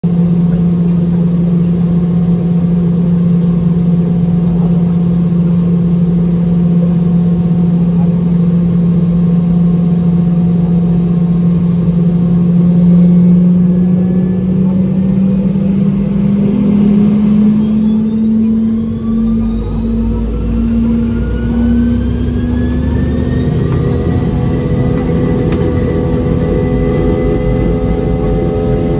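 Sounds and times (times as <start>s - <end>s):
jet engine drone: 0.0s - 28.9s.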